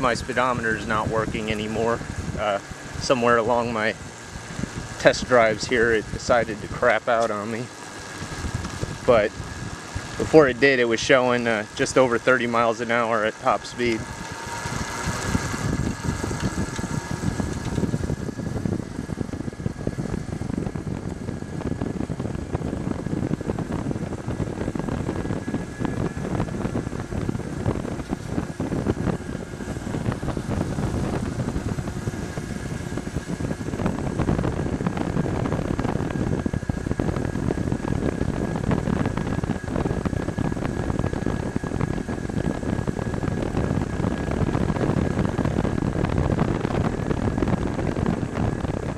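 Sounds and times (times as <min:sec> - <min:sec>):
road noise: 0:00.0 - 0:48.9
thin high whine: 0:00.0 - 0:48.9
wind buffeting microphone: 0:00.0 - 0:48.9.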